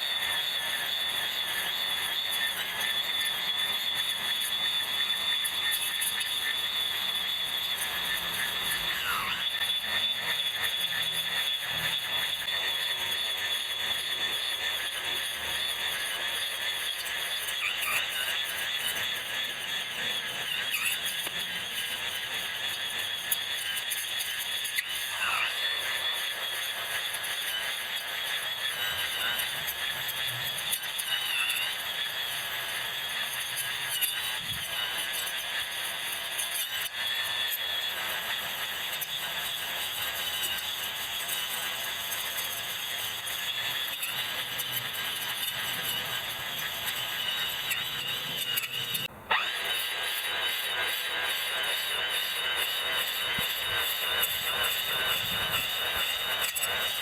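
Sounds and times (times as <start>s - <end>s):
grass trimmer whine: 0.0s - 57.0s.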